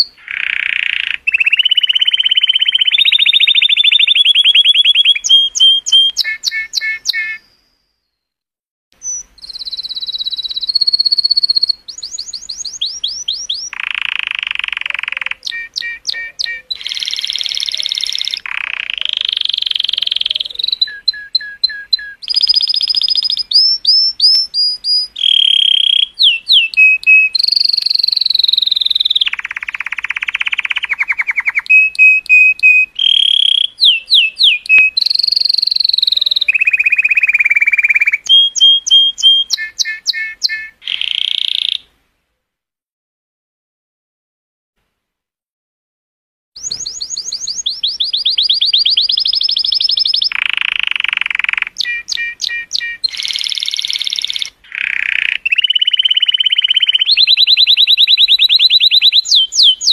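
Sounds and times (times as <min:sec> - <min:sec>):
canary singing: 0:00.0 - 0:07.7, 0:09.0 - 0:41.9, 0:46.6 - 0:59.9.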